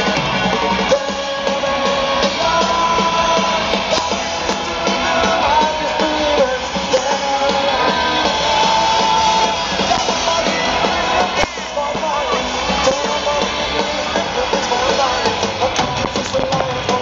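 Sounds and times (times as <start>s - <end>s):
distorted electric guitars: 0.0s - 17.0s
drums: 0.0s - 17.0s
person singing lead vocal: 0.0s - 17.0s.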